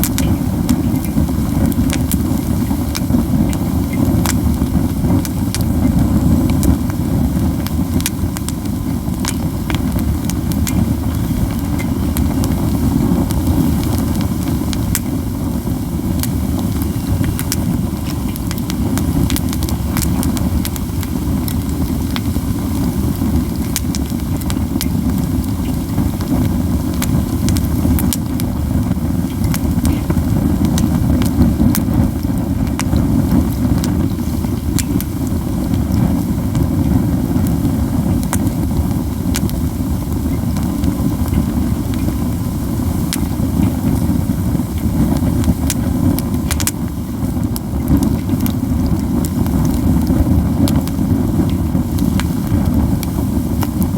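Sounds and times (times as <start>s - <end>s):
pine cones crackling in fire: 0.0s - 53.9s.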